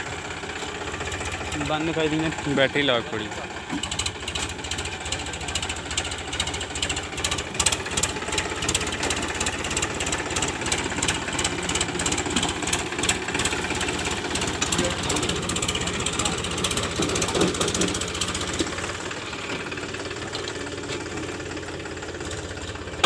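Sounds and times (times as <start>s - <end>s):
rapid metallic clatter: 0.0s - 23.0s
tractor diesel engine running: 0.0s - 23.0s.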